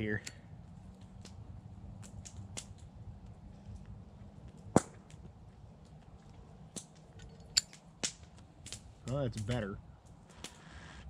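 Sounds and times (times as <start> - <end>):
campfire wood crackling: 0.0 - 11.0
sharp pops from fire: 0.1 - 11.0.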